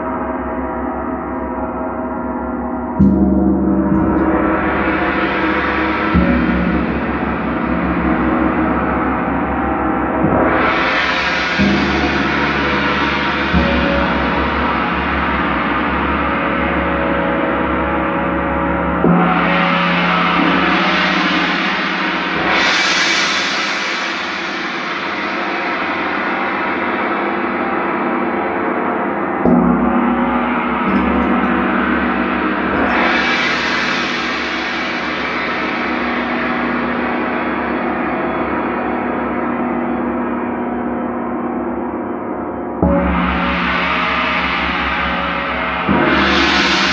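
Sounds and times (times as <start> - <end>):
gong ringing: 3.0 - 41.7, 42.3 - 46.9.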